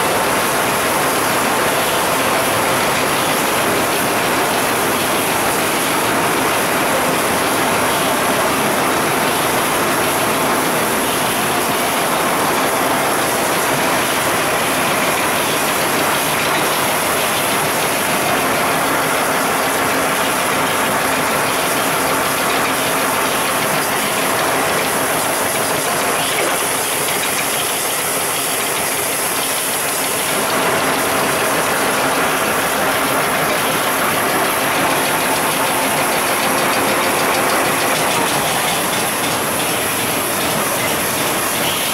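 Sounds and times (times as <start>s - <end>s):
machinery clattering: 0.0s - 41.9s.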